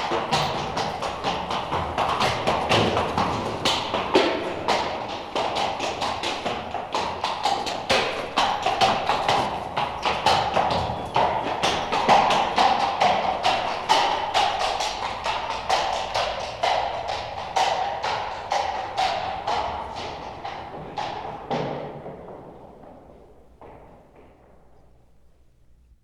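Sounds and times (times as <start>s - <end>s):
horse hooves on hard street: 0.0s - 25.7s.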